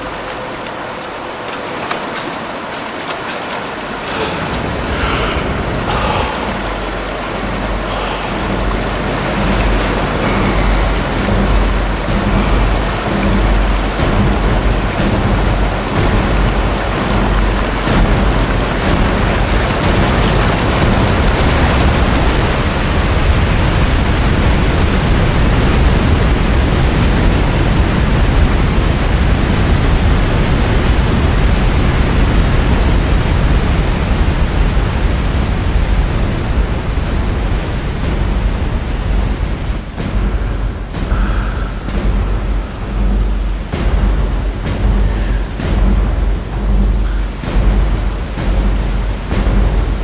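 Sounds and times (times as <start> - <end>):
large waterfall rushing: 0.0 - 50.0.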